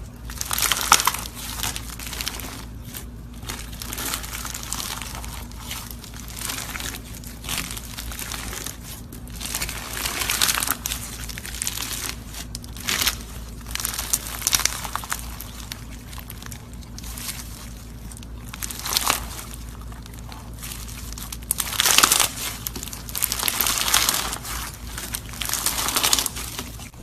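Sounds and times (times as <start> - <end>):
crunchy slime crackling: 0.0 - 27.0.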